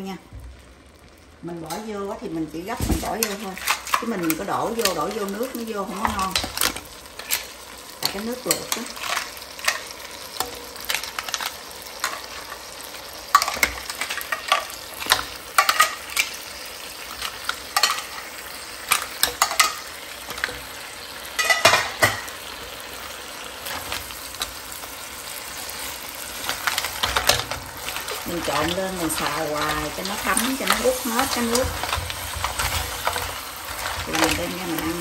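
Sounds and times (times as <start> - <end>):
clams sizzling in a wok: 0.0 - 35.0.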